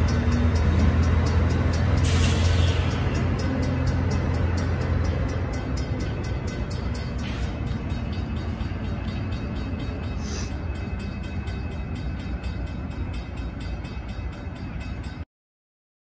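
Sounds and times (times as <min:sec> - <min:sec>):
diesel locomotive rumbling: 0:00.0 - 0:15.2.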